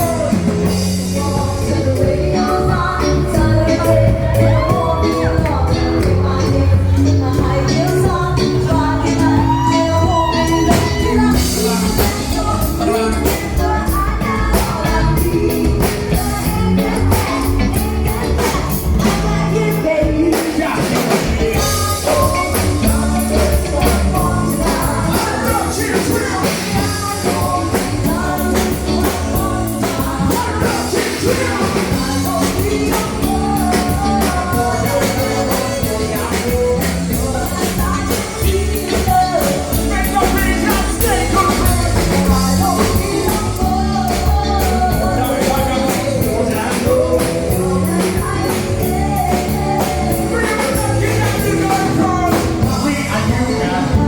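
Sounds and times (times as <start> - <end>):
guitar: 0.0 - 54.0
person singing: 0.0 - 54.0
rock band playing: 0.0 - 54.0
steady drum beat: 0.0 - 54.0.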